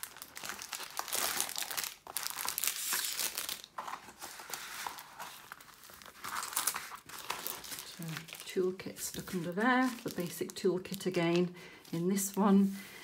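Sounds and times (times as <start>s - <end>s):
plastic film crinkling: 0.0s - 12.8s.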